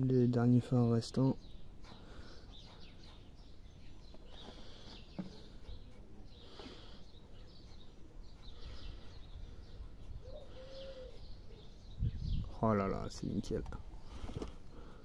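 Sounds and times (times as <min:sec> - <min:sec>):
birds chirping: 0:00.0 - 0:15.0
low outdoor background noise: 0:00.0 - 0:15.0.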